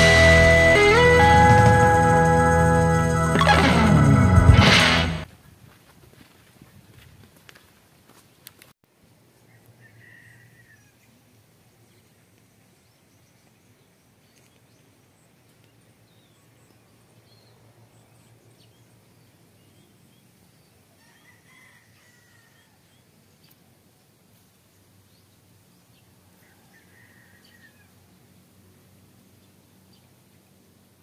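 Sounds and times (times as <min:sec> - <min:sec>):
outdoor background noise: 0:00.0 - 0:31.0.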